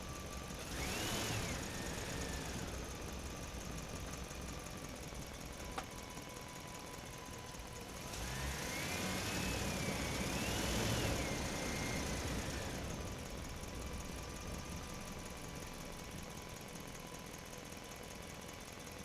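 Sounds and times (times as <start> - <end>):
engine whine rising and falling: 0.0 - 16.6
vehicle engine rumbling: 0.0 - 19.0.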